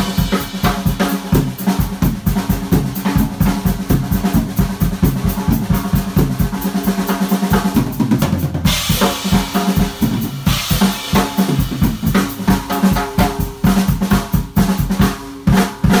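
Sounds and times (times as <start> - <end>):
drum kit played fast: 0.0 - 16.0.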